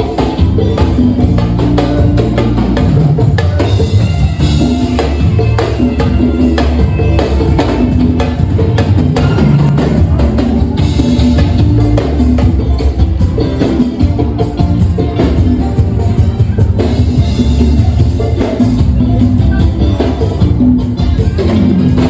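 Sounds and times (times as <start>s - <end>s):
bass line: 0.0s - 22.0s
drum kit beat: 0.0s - 22.0s
live band playing: 0.0s - 22.0s.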